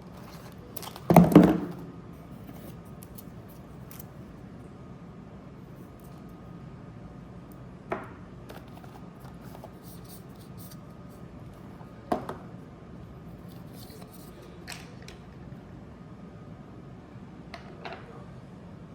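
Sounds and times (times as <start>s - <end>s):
room hum: 0.0s - 18.9s.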